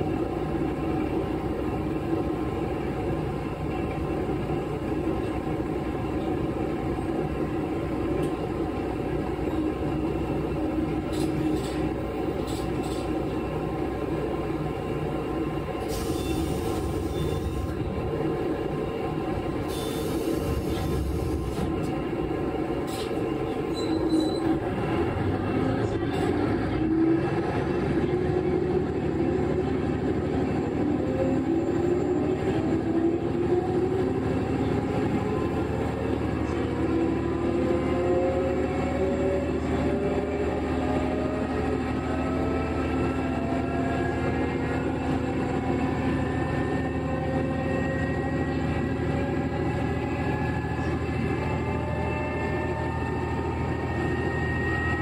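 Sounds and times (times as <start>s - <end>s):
diesel railcar engine: 0.0s - 55.0s.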